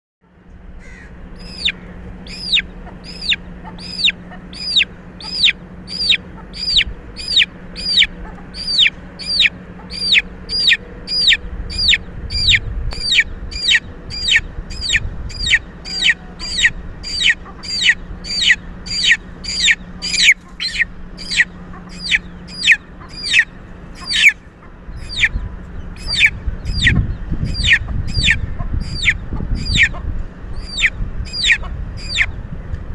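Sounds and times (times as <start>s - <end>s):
chick peeping: 1.4s - 32.3s.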